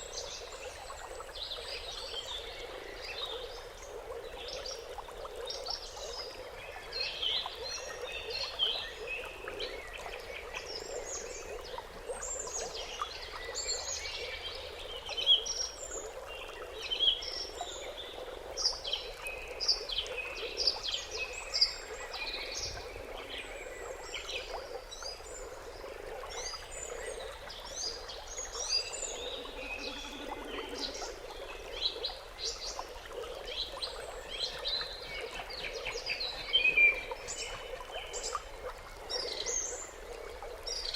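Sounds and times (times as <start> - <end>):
low background bird chorus: 0.0 - 40.9.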